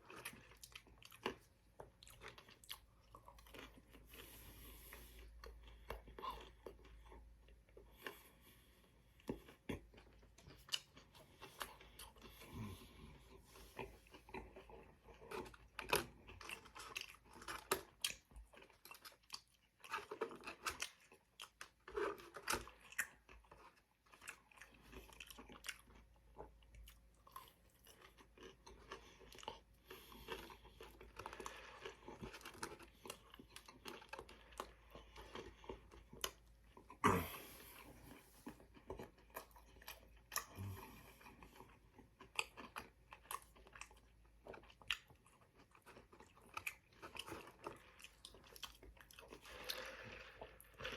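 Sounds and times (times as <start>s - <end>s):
man chewing food: 0.0s - 50.9s.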